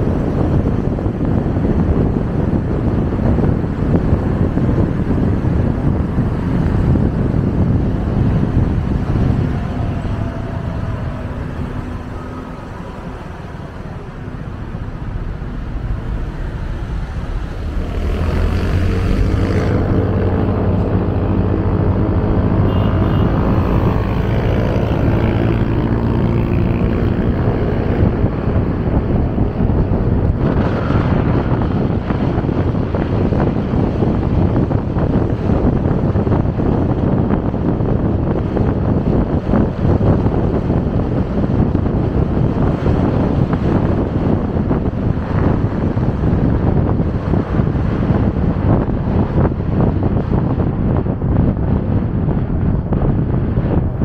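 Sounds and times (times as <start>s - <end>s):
motorcycle engine drone: 0.0s - 54.0s
road noise: 0.0s - 54.0s
wind rushing over microphone: 0.0s - 54.0s.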